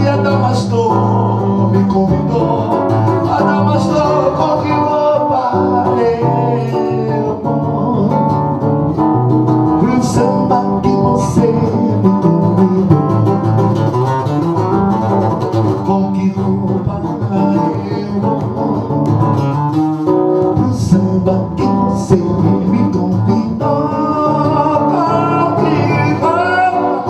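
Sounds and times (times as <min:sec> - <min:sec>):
live samba music with guitar: 0:00.0 - 0:27.0.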